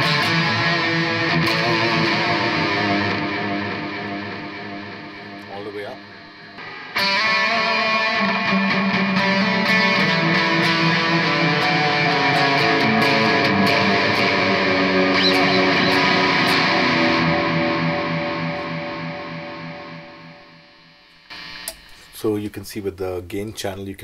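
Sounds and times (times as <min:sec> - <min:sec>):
distorted electric guitar with echo: 0:00.0 - 0:22.2.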